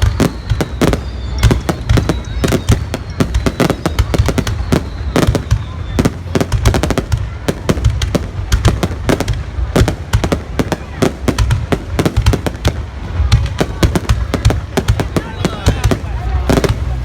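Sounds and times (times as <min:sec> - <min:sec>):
fireworks bangs: 0:00.0 - 0:17.0
fireworks low rumble: 0:00.0 - 0:17.0.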